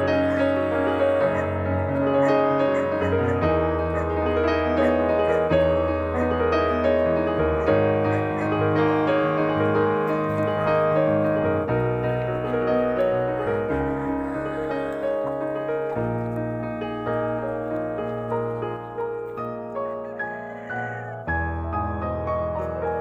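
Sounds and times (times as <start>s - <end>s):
keyboard instrumental music: 0.0s - 23.0s.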